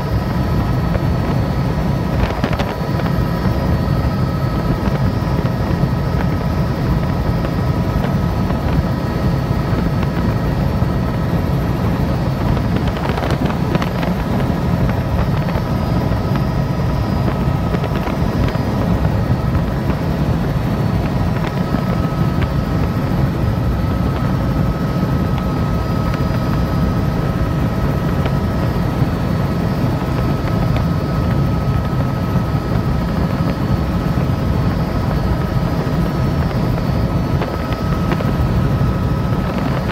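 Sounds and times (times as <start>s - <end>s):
constant high whine: 0.0s - 39.9s
helicopter drone in flight: 0.0s - 39.9s.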